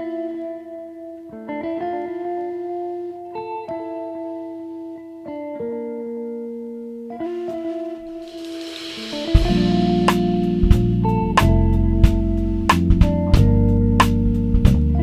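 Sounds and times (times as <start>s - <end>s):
guitar playing sustained chords: 0.0s - 15.0s.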